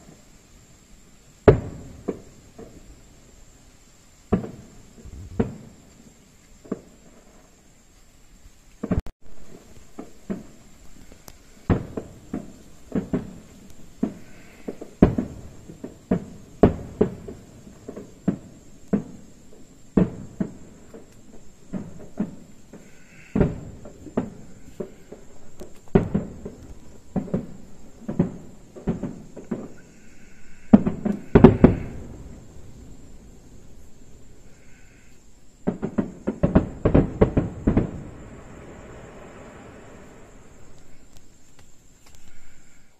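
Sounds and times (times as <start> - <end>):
firework shells bursting: 1.4 - 3.6, 4.2 - 7.6, 8.8 - 42.8.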